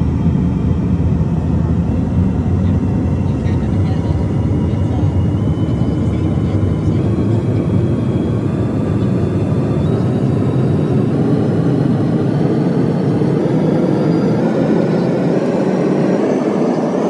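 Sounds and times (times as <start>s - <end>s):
jet engines: 0.0s - 17.0s.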